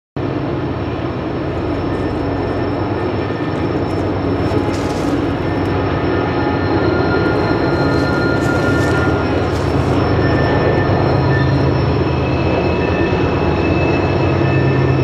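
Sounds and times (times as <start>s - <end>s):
freight train locomotive drone: 0.2s - 15.0s.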